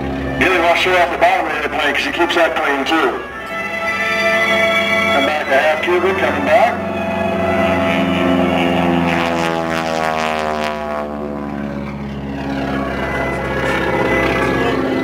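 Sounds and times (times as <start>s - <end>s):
propeller plane passing: 0.0s - 15.0s.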